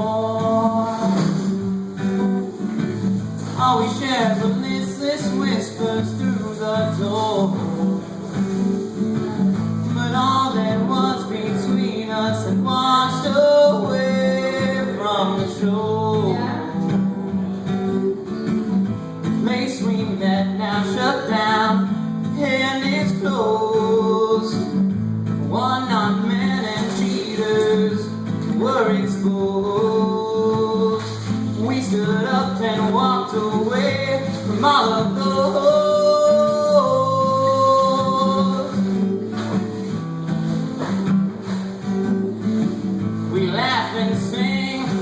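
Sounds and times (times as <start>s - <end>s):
acoustic guitar strumming: 0.0s - 45.0s
person singing a ballad: 0.0s - 45.0s.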